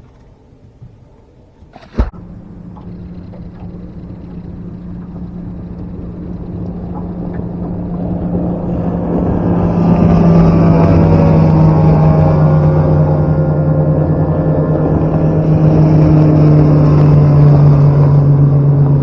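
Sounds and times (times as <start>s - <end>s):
outboard motor running: 1.1s - 19.0s.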